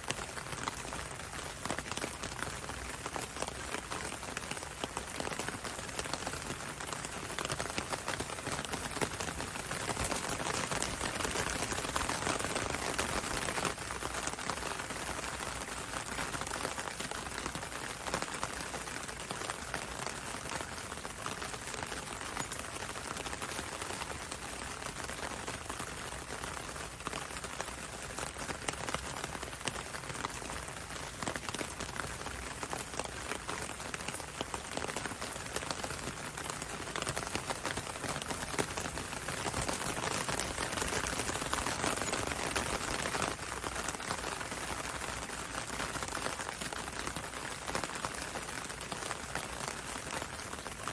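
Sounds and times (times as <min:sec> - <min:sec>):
rain on window and road: 0:00.0 - 0:50.9.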